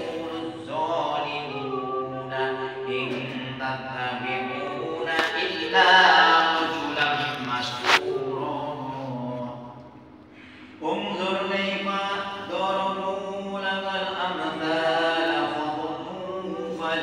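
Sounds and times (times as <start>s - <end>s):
man chanting into microphone: 0.0s - 9.8s, 10.8s - 17.0s.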